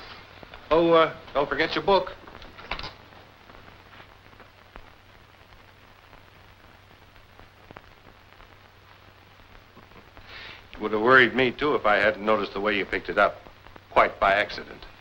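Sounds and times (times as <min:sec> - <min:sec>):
clicks and crackles: 0:00.0 - 0:15.0
film soundtrack hiss and hum: 0:00.0 - 0:15.0.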